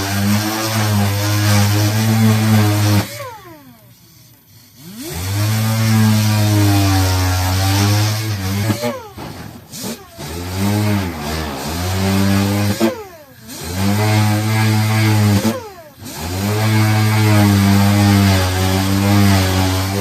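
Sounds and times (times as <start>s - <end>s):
power tool motor humming: 0.0s - 20.0s.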